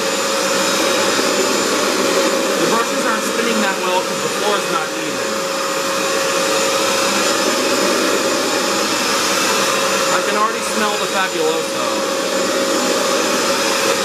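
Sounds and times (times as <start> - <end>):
wet floor cleaner running: 0.0 - 14.0.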